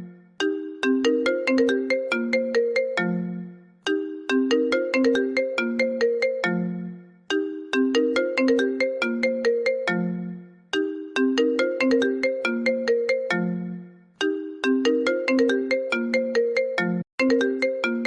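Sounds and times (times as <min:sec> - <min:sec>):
phone ringtone tune: 0:00.0 - 0:18.0.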